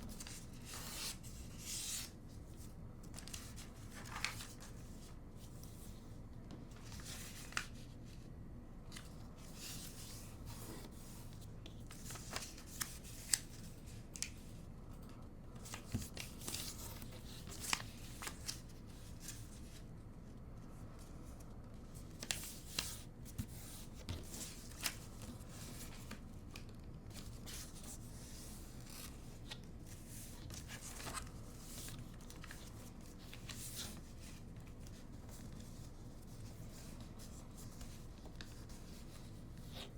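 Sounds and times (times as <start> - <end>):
paper folding and crinkling: 0.0 - 14.6, 15.6 - 39.9.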